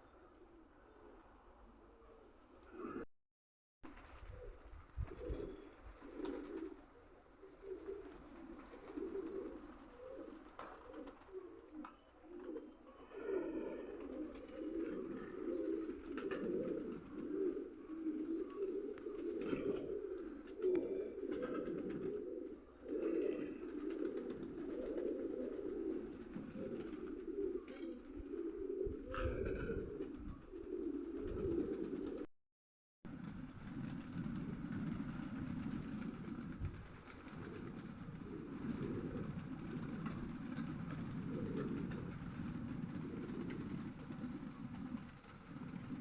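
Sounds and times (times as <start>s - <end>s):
pigeons cooing: 4.0s - 32.3s, 33.2s - 46.0s.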